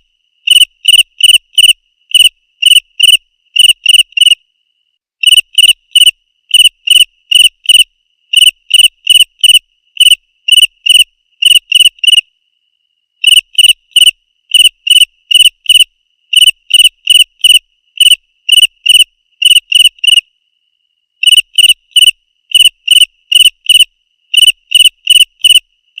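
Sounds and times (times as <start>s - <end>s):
cricket chirping: 0.0s - 25.8s.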